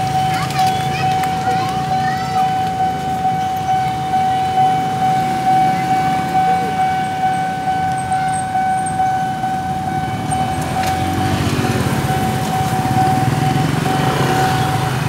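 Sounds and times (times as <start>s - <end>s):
level crossing warning alarm: 0.0s - 15.0s
motorcycle engines idling: 0.0s - 15.0s.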